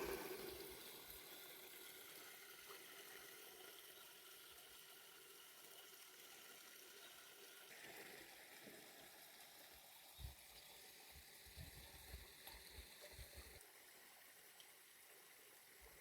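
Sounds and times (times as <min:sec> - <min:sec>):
faint flowing water: 0:00.0 - 0:16.0.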